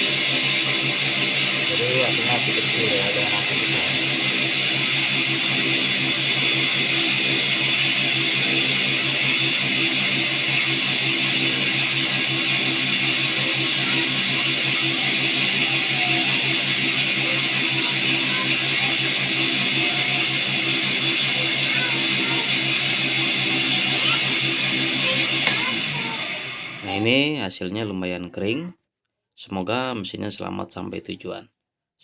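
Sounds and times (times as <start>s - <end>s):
cotton candy machine humming: 0.0s - 27.3s.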